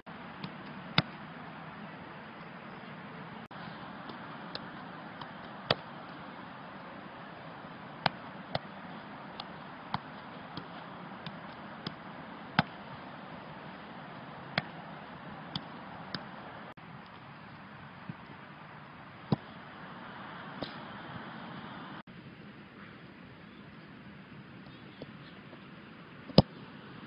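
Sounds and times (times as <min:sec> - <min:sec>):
outdoor hiss: 0:00.1 - 0:27.0.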